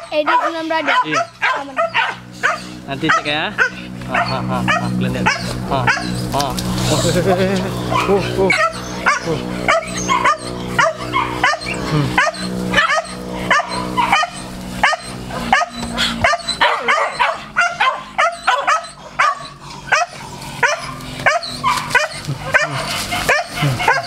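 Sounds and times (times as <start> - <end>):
dog barking: 0.0 - 6.2, 7.9 - 24.0.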